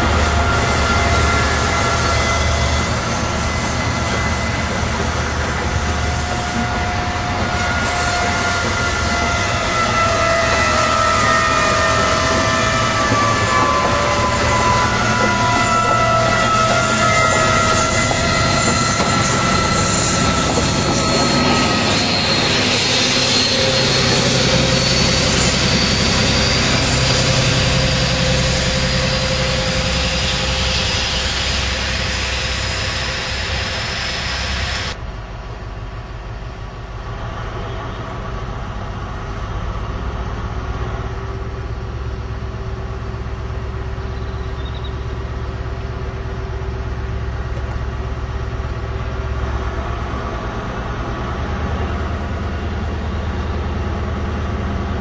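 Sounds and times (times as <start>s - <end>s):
diesel train hum: 0.0s - 55.0s
train rushing past: 0.0s - 55.0s.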